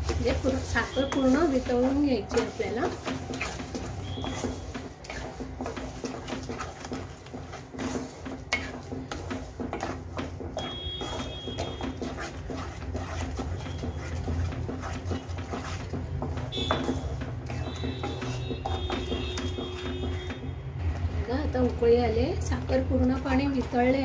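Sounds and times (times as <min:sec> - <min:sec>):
wooden spatula scraping pan: 0:00.0 - 0:24.0.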